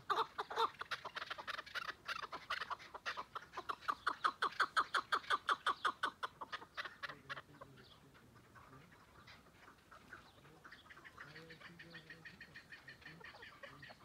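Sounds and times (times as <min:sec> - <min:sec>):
partridge clucking calls: 0:00.0 - 0:14.0.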